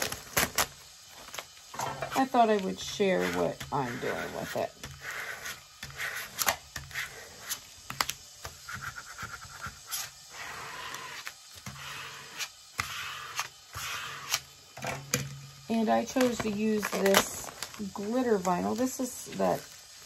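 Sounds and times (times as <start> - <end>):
plastic rustling and scraping: 0.0 - 15.3, 15.9 - 19.8.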